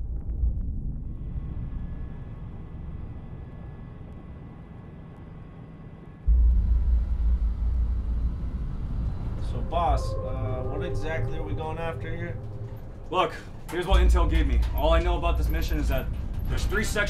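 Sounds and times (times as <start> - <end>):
loud low rumble: 0.0 - 17.0.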